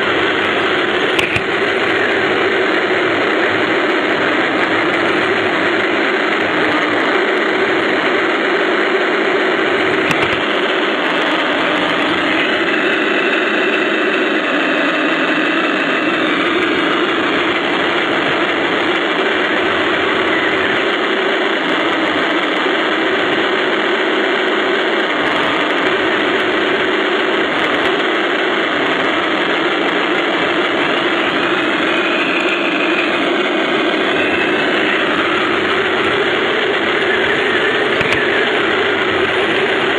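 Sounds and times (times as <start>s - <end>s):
high motor whine: 0.0s - 39.9s.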